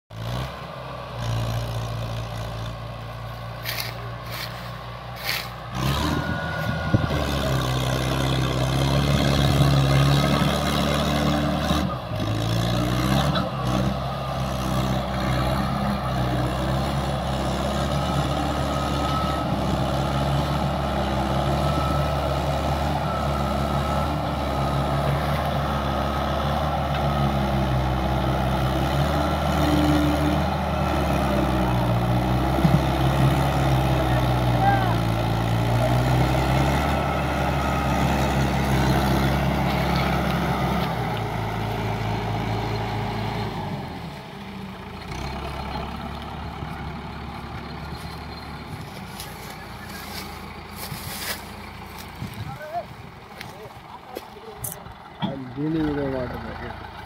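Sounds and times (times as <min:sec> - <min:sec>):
tractor diesel engine under load: 0:00.1 - 0:57.0.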